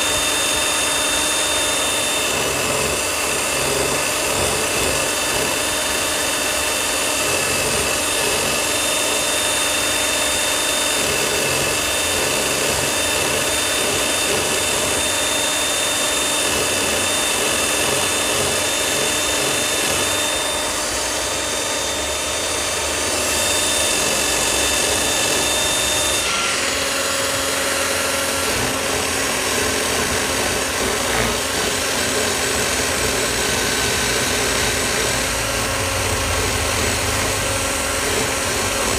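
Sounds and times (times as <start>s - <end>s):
cordless drill motor whining: 0.0s - 38.9s.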